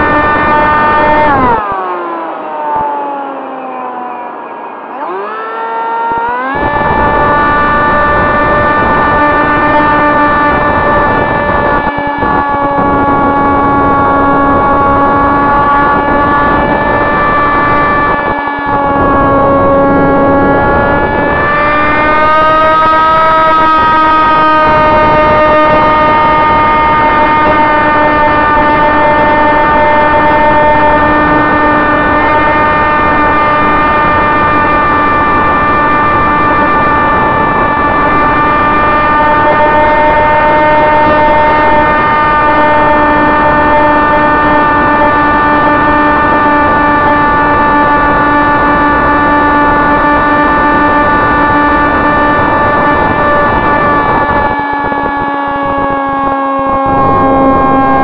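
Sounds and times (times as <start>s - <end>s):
electric motor and propeller whine: 0.0s - 58.0s.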